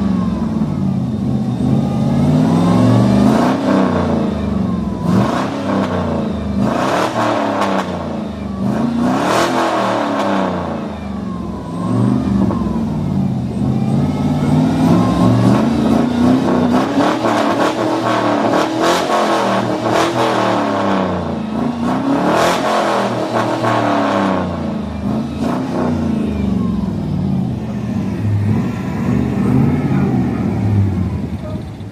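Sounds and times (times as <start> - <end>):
truck engine revving: 0.0 - 31.9.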